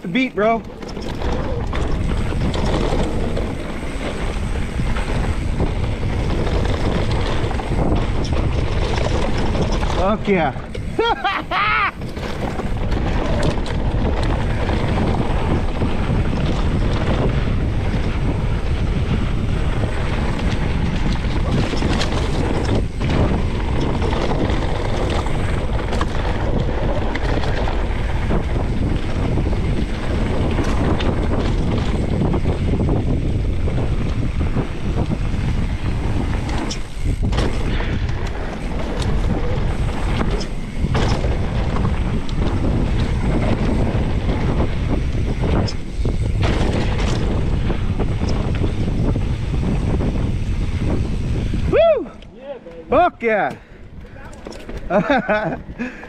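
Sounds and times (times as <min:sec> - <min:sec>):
tyres rumbling on dirt: 0:00.0 - 0:52.0, 0:52.7 - 0:56.0
bike clicks and rattles: 0:00.0 - 0:56.0
wind buffeting microphone: 0:00.0 - 0:56.0.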